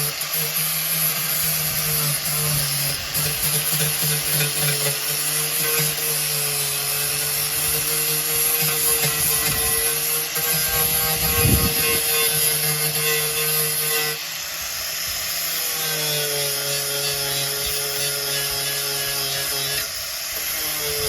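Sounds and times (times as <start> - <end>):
angle grinder whining: 0.0 - 21.0.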